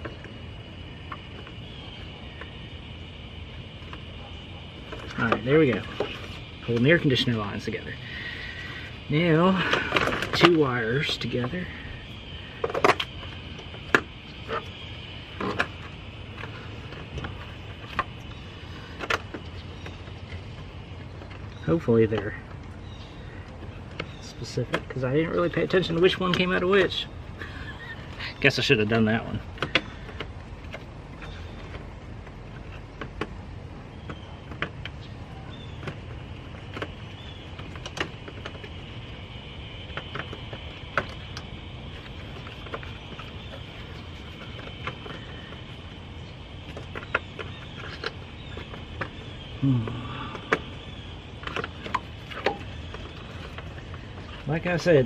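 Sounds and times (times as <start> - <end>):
steady low background noise: 0.0 - 55.0
steady low rumble: 0.0 - 55.0.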